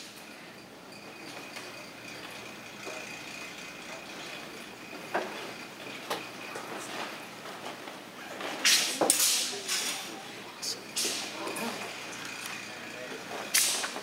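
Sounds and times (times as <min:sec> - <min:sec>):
room noise: 0:00.0 - 0:14.0.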